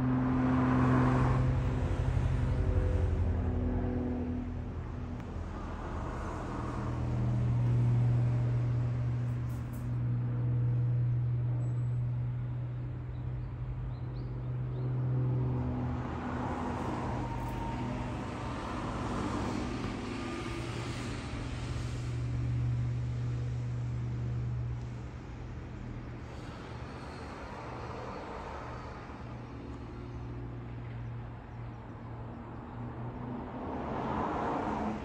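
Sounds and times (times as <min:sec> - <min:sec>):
low engine drone: 0:00.0 - 0:34.0.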